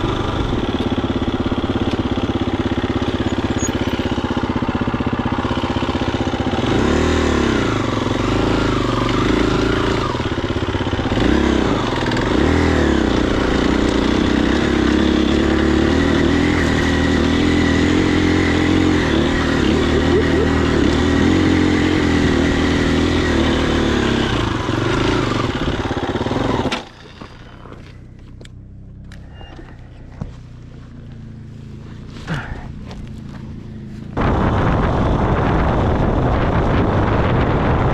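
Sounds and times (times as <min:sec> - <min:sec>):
dirt bike engine running: 0:00.0 - 0:37.9.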